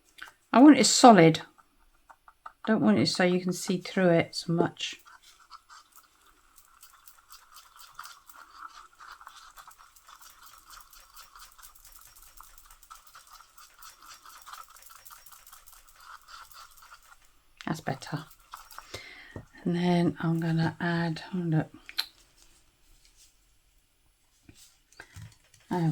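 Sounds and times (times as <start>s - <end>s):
resin mixing scraping in cup: 0.1s - 21.3s.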